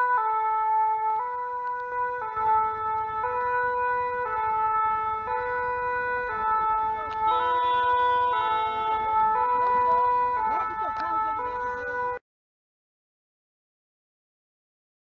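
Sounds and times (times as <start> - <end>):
two-tone emergency siren: 0.0 - 12.2.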